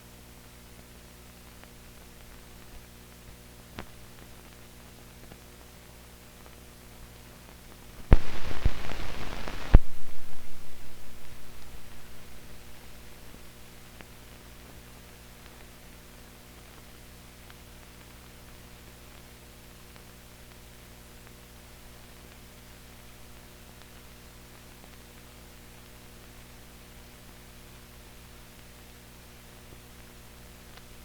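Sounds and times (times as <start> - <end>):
mains hum: 0.0 - 31.0
film soundtrack hiss: 0.1 - 31.0.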